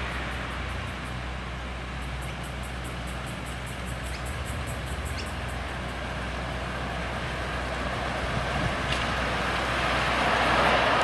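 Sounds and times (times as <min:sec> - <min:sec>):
miniature steam locomotive running: 0:00.0 - 0:11.0.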